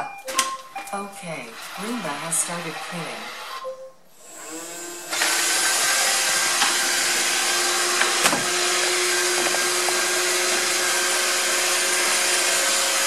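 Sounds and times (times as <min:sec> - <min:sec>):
robot vacuum whirring: 0:01.3 - 0:13.0.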